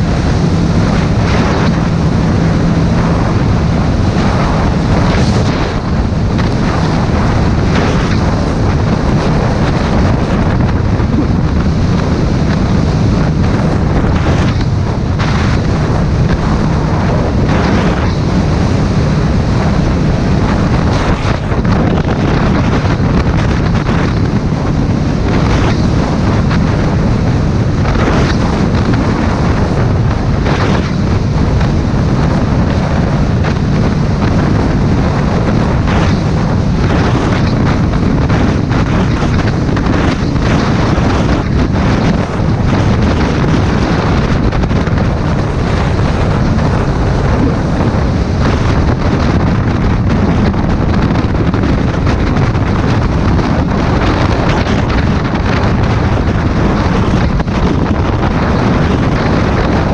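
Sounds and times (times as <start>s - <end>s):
low vehicle hum: 0.0s - 59.9s
wind buffeting microphone: 0.0s - 59.9s.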